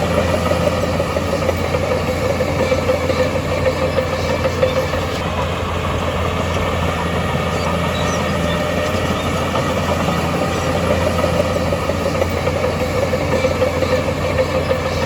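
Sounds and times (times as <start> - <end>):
heavy machine diesel engine running: 0.0 - 15.0.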